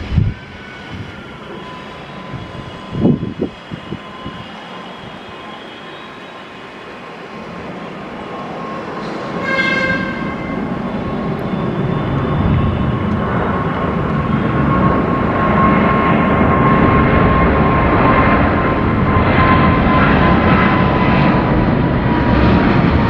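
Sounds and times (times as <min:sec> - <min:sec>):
jet airliner engines: 0:00.0 - 0:23.0.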